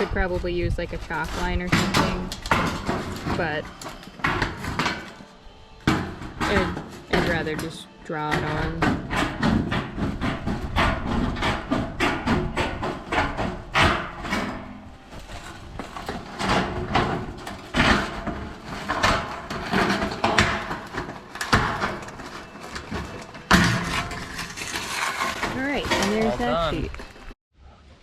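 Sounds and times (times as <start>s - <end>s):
metal sheet flexing and rattling: 0.0s - 5.2s, 5.9s - 27.4s.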